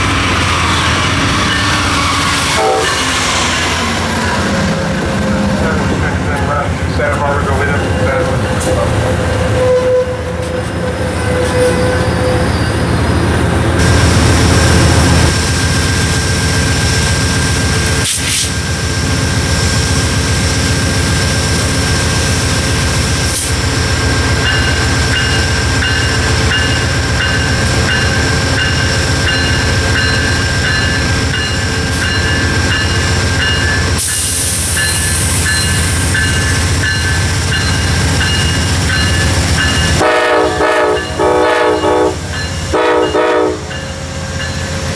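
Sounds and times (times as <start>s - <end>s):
train passing rumble: 0.0s - 44.9s.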